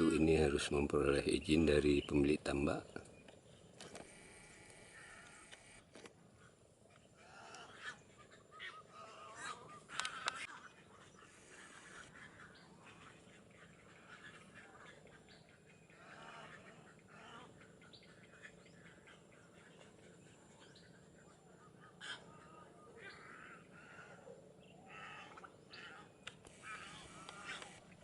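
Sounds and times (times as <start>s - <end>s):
wetland birds calling: 0.0s - 5.6s, 6.4s - 28.0s.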